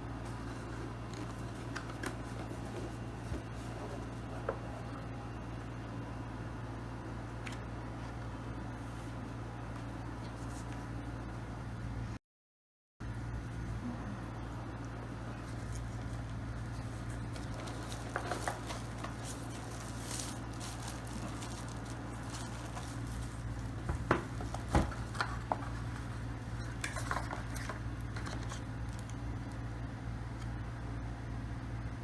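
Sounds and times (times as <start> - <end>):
steady low hum: 0.0 - 12.2, 13.0 - 32.0.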